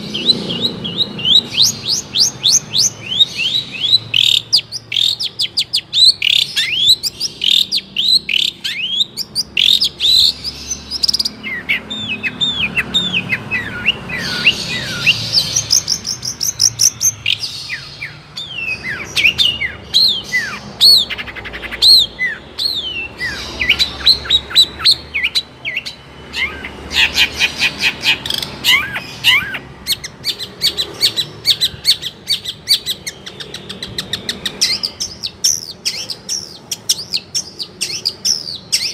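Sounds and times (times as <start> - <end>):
bird singing fast varied song: 0.0 - 38.9.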